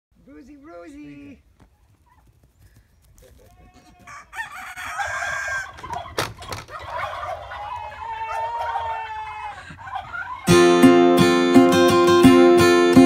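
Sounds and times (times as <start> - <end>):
farm animal calls: 0.3 - 11.1.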